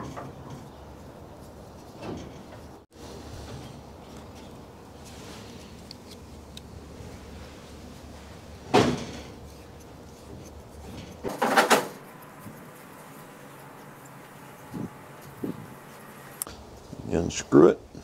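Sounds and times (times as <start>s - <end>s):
low steady hum: 0.1s - 17.0s.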